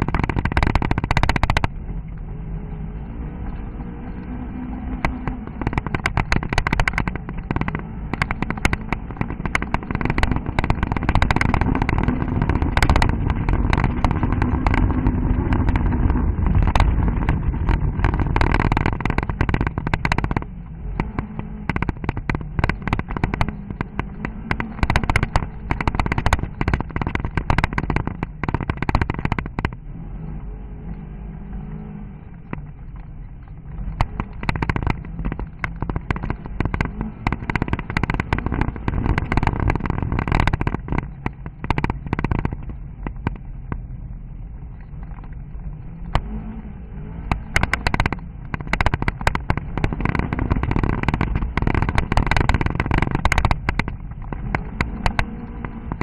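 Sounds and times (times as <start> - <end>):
stones and suspension clattering: 0.0 - 2.0, 3.3 - 29.8, 31.6 - 44.0, 44.6 - 56.0
car engine: 0.0 - 56.0.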